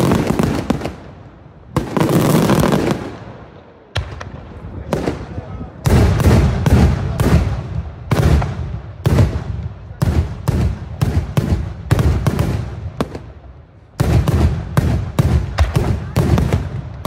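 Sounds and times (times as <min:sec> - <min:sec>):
fireworks bangs with echo: 0:00.0 - 0:17.0.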